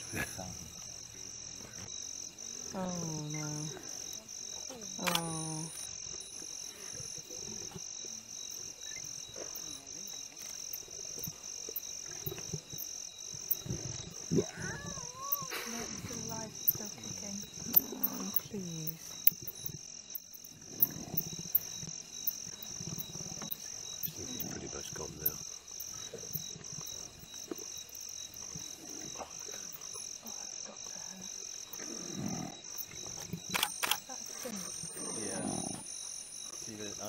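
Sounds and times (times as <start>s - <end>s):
frogs and insects chorus: 0.0s - 37.0s.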